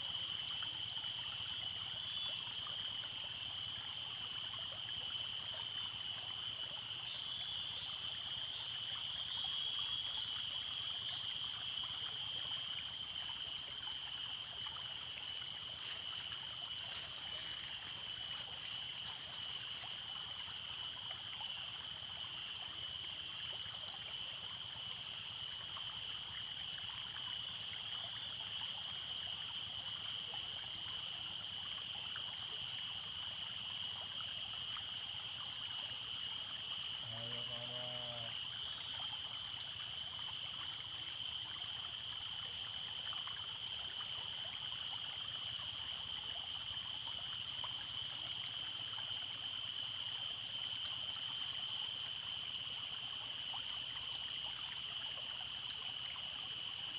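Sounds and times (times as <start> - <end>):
stream water running: 0.0 - 56.9.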